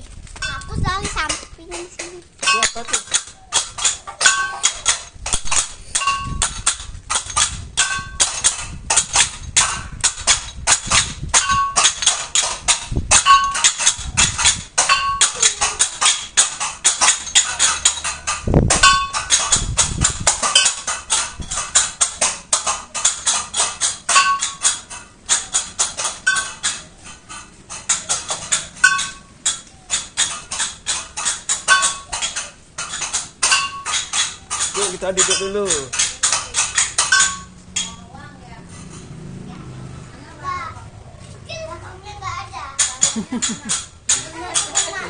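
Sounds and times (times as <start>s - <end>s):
cymbals clashing in fast rattle: 0.4s - 39.2s.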